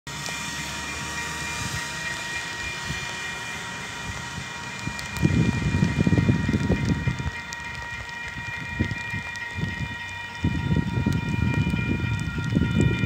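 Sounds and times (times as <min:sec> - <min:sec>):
diesel train drone with whining tones: 0:00.1 - 0:13.0
wind buffeting microphone: 0:01.0 - 0:13.0.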